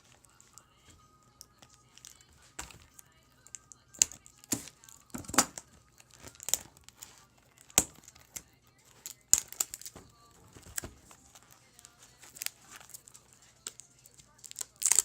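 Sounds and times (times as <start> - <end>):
plastic wrap crinkling and ripping: 1.4 - 15.0.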